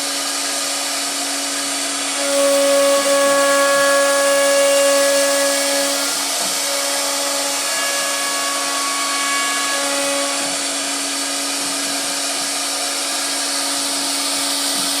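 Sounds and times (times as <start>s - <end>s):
router bit carving wood: 0.0s - 15.0s
router spindle high whine: 0.0s - 15.0s.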